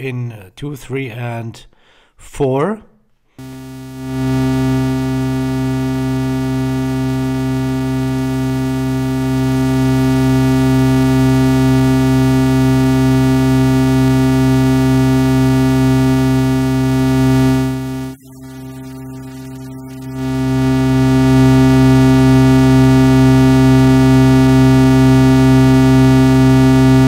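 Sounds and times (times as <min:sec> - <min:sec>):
low buzzing synthesizer drone: 0:03.4 - 0:27.0.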